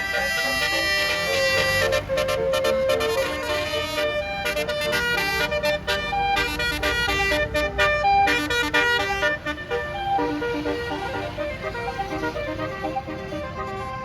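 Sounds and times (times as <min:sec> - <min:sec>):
bus air horn playing a melody: 0:00.0 - 0:14.0
bus rumbling: 0:00.0 - 0:14.0.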